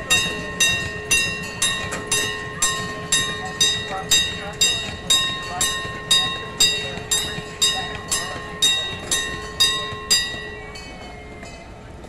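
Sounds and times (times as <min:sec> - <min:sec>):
bell ringing: 0:00.0 - 0:11.8
miniature train passing: 0:00.0 - 0:12.0.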